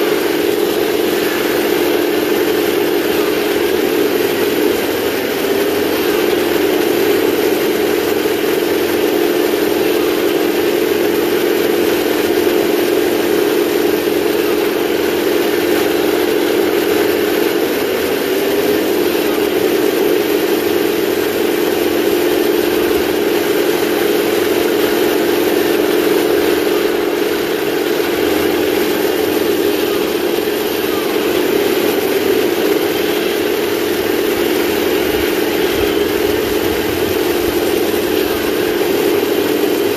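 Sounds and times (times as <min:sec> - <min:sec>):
simulated tank engine running: 0:00.0 - 0:39.9.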